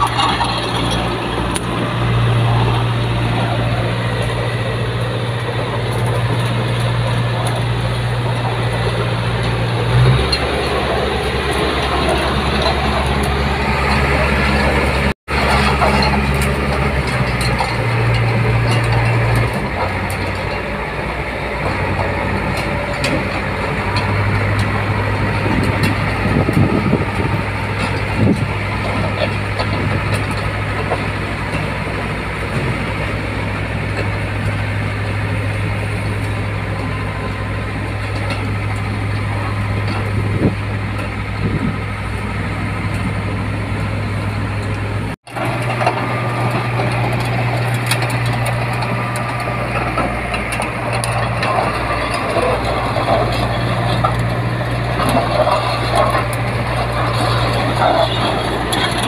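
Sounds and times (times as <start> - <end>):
crawler tracks clattering: 0.0 - 33.2, 44.7 - 59.0
bulldozer diesel engine running: 0.0 - 59.0.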